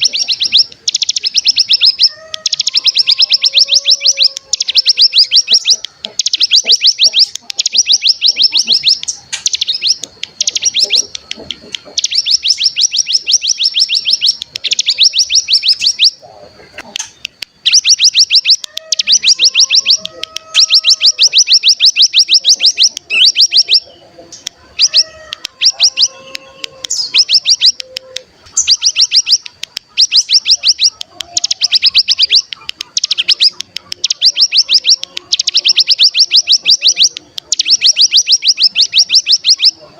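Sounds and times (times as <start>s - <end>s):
songbird rapid high trills: 0.0s - 16.3s, 16.9s - 39.9s
soft low whistled bird notes: 0.0s - 39.9s.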